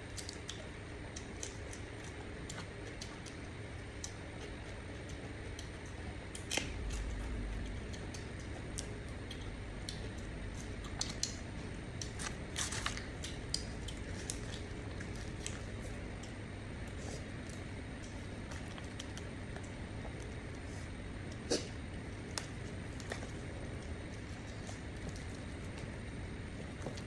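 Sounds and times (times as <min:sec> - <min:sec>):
eating clicks and crackles: 0:00.0 - 0:27.0.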